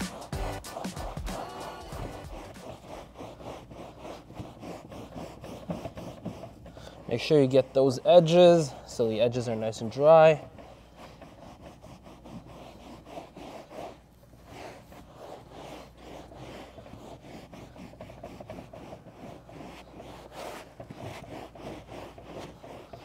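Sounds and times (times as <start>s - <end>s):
towel scrubbing carpet mat: 0.0s - 23.0s.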